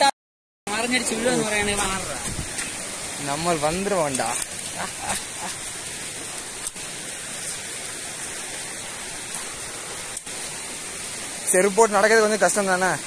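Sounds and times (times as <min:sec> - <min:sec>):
forest background hiss: 0:00.7 - 0:13.0.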